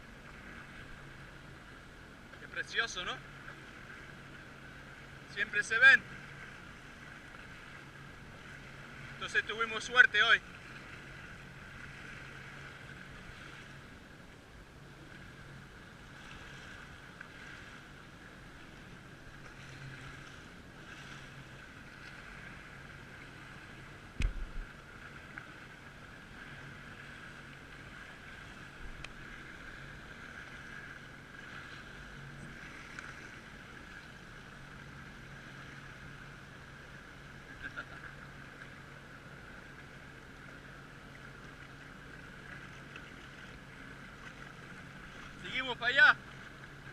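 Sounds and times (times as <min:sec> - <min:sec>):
jet ski engine running: 0:00.0 - 0:46.9.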